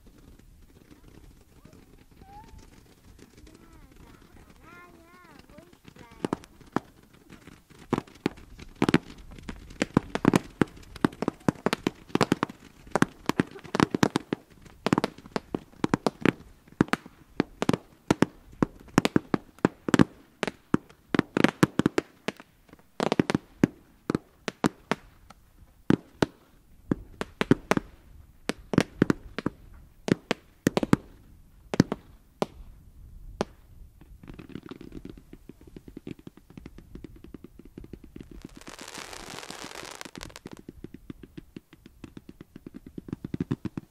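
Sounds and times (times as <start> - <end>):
faint hiss: 0.0 - 43.9
fireworks launching and bursting: 0.0 - 43.9.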